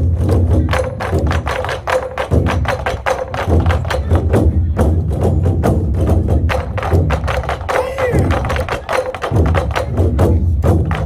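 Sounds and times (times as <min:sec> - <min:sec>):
drum ensemble playing: 0:00.0 - 0:11.0.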